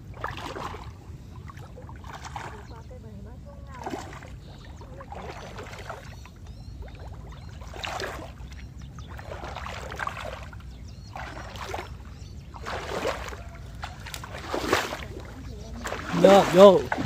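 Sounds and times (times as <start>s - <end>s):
feet splashing through water: 0.0s - 17.0s.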